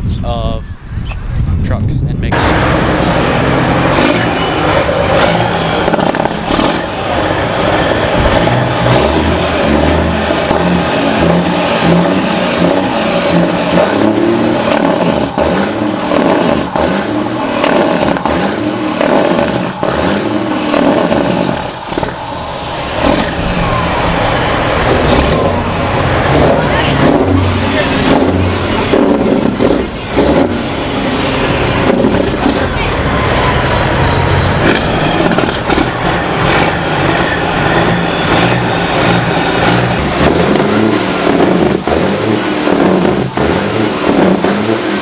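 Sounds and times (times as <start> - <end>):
diesel truck engines revving: 2.2 - 45.0.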